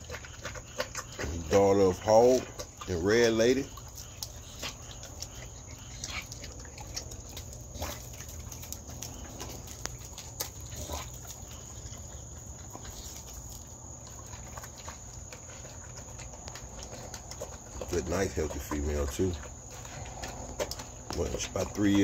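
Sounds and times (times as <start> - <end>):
dog crunching kibble: 0.0 - 22.0.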